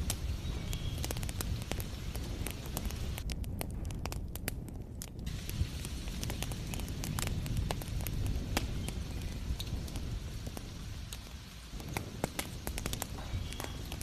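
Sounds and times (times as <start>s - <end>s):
rain hissing: 0.0s - 3.2s, 5.2s - 14.0s
wood fire crackling: 0.0s - 14.0s.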